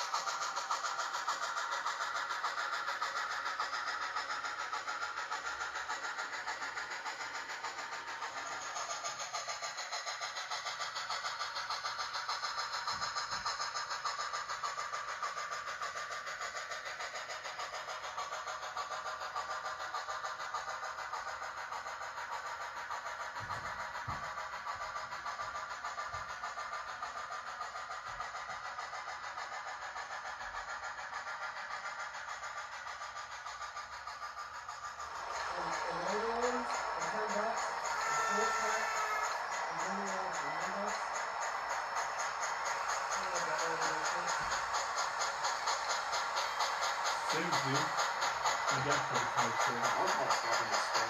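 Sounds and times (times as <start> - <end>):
steam locomotive chuffing: 0.0 - 51.0.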